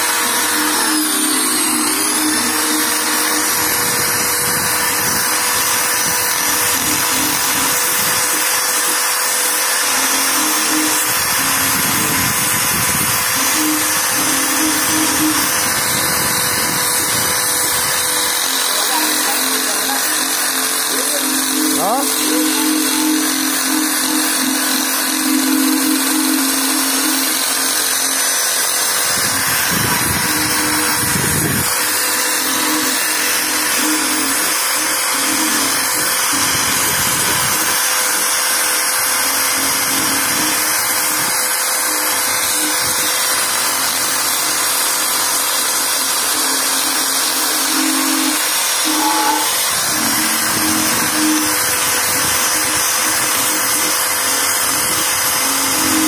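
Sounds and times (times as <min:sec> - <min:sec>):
electric drill motor whine: 0:00.0 - 0:56.0
wire brush scratching metal: 0:00.0 - 0:56.0.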